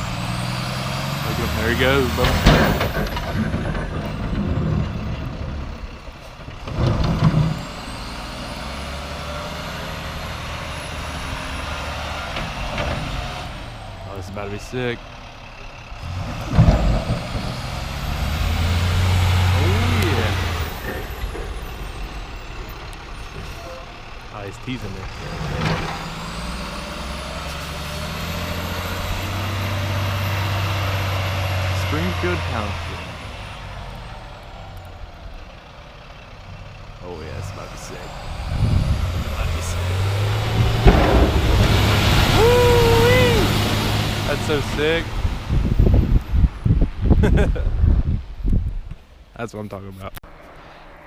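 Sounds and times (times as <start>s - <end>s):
heavy vehicle engine running: 0.0s - 48.4s.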